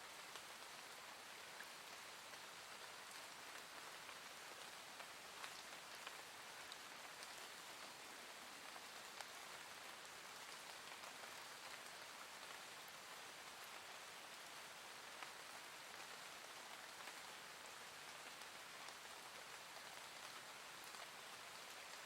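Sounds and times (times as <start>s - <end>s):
soft rain falling: 0.0s - 22.0s.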